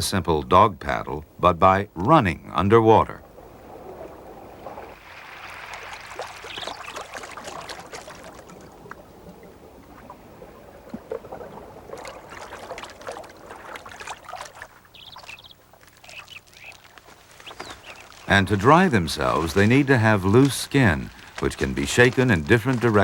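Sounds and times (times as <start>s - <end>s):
water splashing and sloshing: 3.1s - 23.0s.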